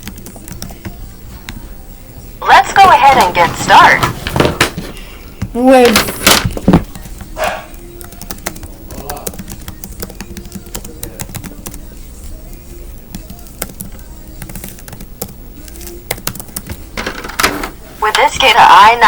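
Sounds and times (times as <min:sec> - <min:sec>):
faint music: 0:00.0 - 0:19.0.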